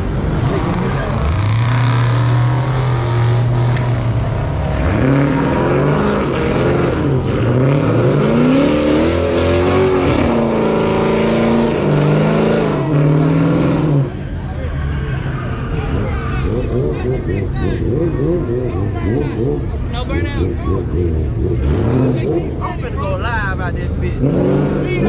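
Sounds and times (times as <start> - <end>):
car engine revving hard: 0.0 - 14.4, 15.7 - 22.6, 23.9 - 25.0.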